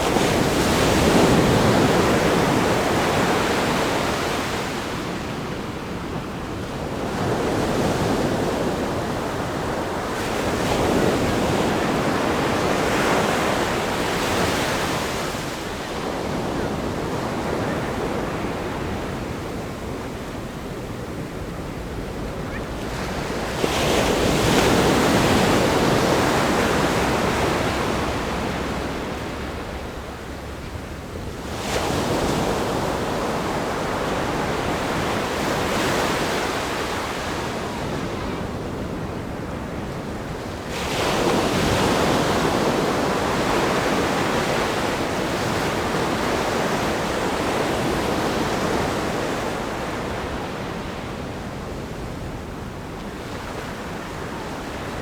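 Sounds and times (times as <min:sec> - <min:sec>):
steady wash of surf: 0:00.0 - 0:55.0.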